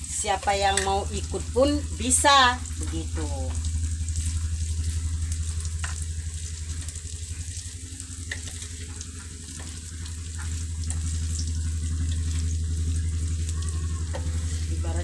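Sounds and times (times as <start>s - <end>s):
food deep-frying in oil: 0.0s - 15.0s
low pulsing hum: 0.0s - 15.0s.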